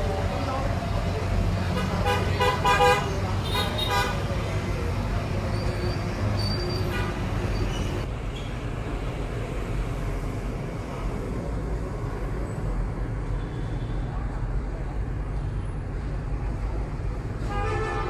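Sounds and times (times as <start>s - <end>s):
low rumble of motor vehicles: 0.0s - 18.0s.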